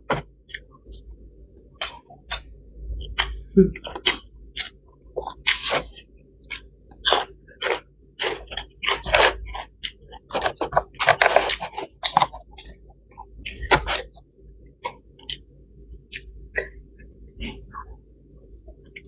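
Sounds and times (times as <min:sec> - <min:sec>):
person chewing and crunching food: 0:01.8 - 0:19.0.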